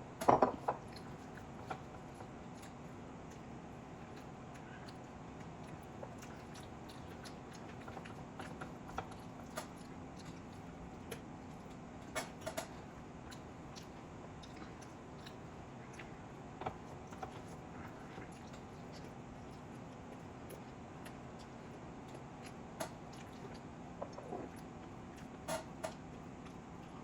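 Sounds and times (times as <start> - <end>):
person chewing: 0.8 - 27.0.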